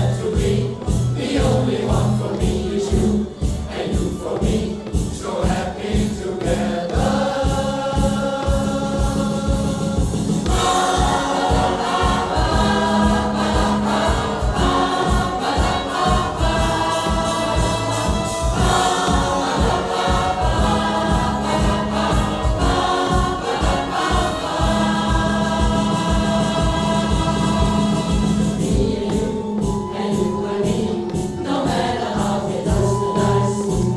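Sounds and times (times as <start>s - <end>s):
choir singing held chords: 0.0s - 33.9s
instrumental backing with steady beat: 0.0s - 33.9s.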